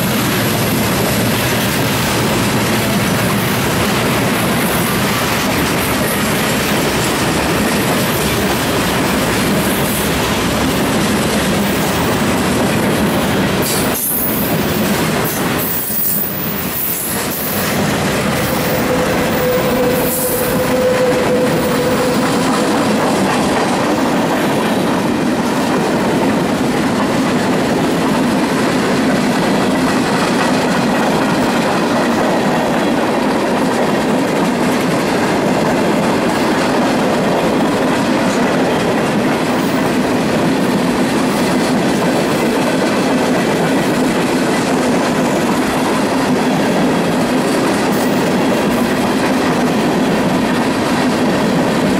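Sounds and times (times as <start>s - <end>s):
train wheels on rails: 0.0s - 51.9s.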